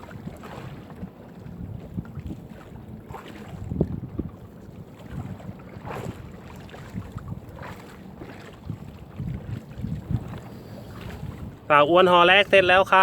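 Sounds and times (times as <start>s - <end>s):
water knocking against hull: 0.0s - 13.0s
wind buffeting microphone: 0.0s - 13.0s.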